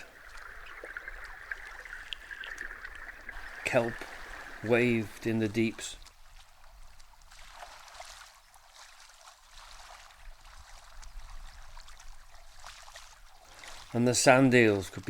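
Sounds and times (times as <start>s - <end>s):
seawater lapping: 0.0s - 15.0s
small water splashes: 0.0s - 15.0s.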